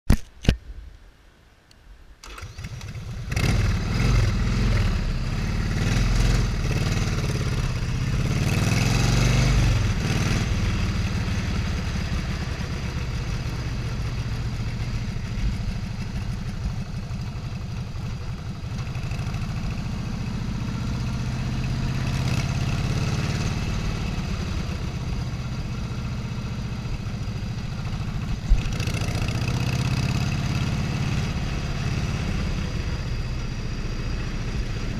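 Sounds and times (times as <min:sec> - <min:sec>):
motorcycle engine revving: 0:02.3 - 0:34.9.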